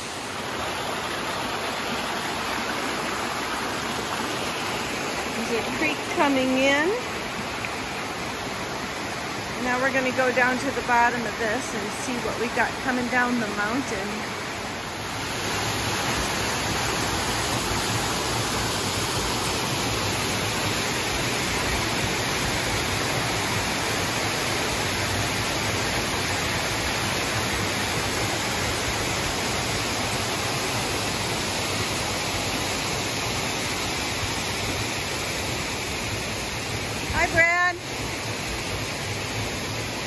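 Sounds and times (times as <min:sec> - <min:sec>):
waterfall rushing over rocks: 0:00.0 - 0:40.0.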